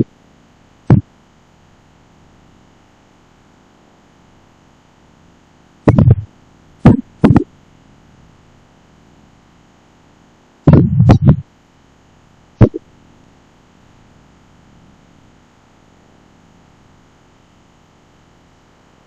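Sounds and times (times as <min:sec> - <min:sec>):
faint electrical hum: 0:00.0 - 0:19.0
recording hiss: 0:00.0 - 0:19.0.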